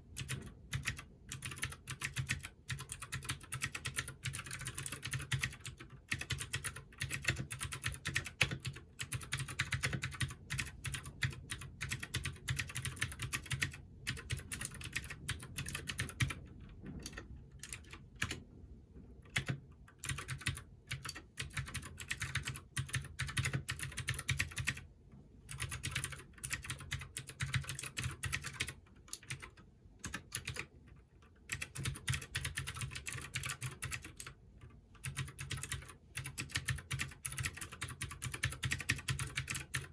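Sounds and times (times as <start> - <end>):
clicky mechanical keyboard typing: 0.1 - 18.4, 19.2 - 24.9, 25.5 - 39.9.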